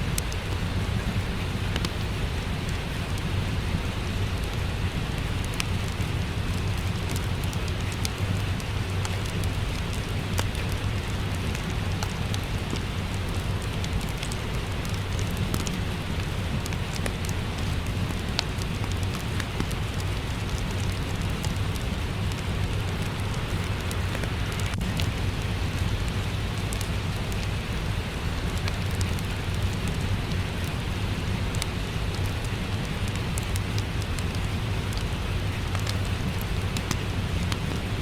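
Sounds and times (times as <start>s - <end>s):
steady rain: 0.0s - 38.0s
wood fire crackling and popping: 0.0s - 38.0s.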